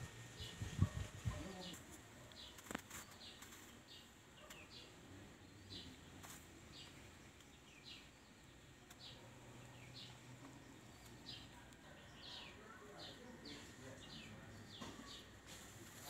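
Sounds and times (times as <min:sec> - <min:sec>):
bird chirping: 0:00.3 - 0:15.4.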